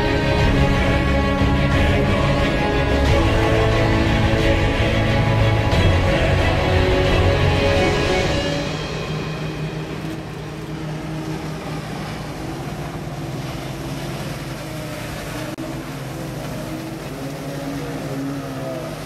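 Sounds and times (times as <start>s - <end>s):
outboard motor running: 0.0s - 19.0s
water wash: 0.0s - 19.0s.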